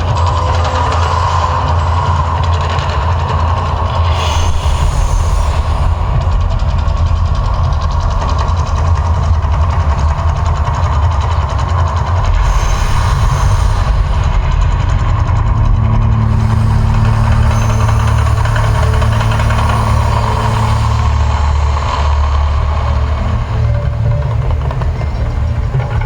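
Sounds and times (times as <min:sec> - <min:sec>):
deep steady rumble: 0:00.0 - 0:26.0.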